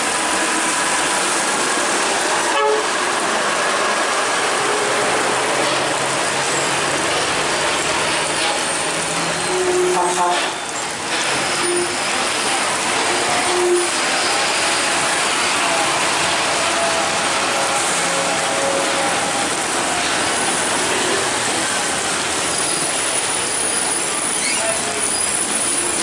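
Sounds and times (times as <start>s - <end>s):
rain hissing: 0.0s - 26.0s
tyres on a wet road: 0.0s - 26.0s.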